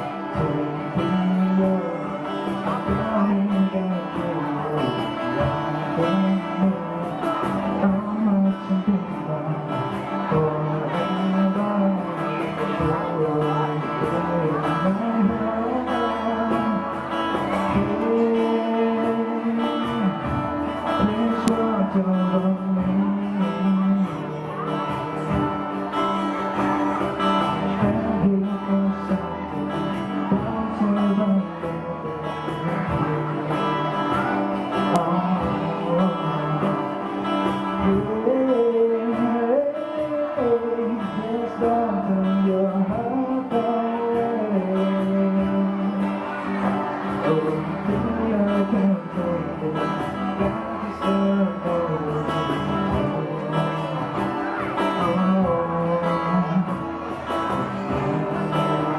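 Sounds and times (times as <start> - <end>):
guitars: 0.0 - 58.9
live band playing: 0.0 - 58.9
person singing: 0.0 - 58.9.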